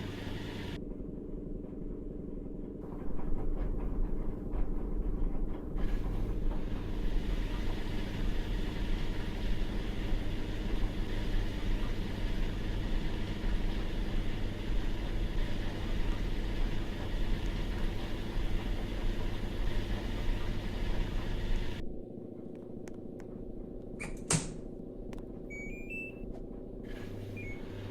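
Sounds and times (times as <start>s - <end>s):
washing machine running: 0.0s - 27.9s.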